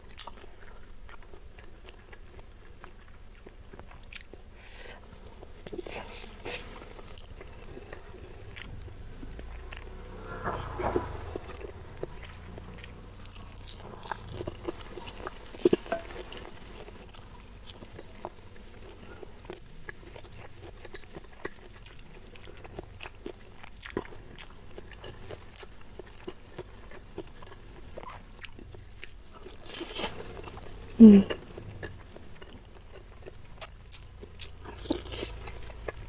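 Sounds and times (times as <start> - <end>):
chewing crispy fried food: 0.0 - 10.0, 10.6 - 36.0
crunchy bites: 3.4 - 10.0, 10.6 - 36.0.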